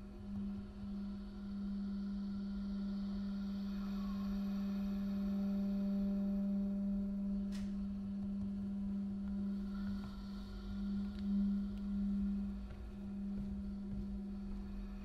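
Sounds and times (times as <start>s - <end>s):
low electronic drone: 0.0s - 15.0s.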